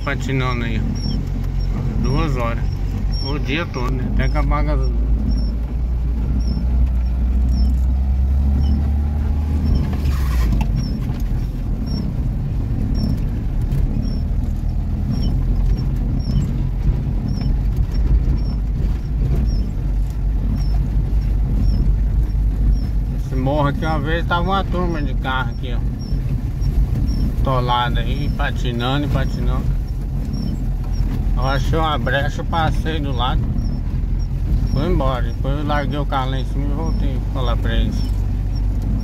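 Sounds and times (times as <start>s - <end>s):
car engine low rumble: 0.0s - 39.0s.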